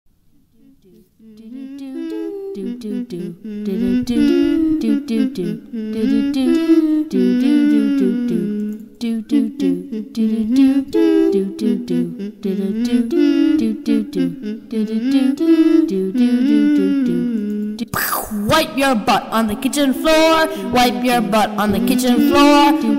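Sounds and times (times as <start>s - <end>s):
person humming: 0.5s - 22.9s.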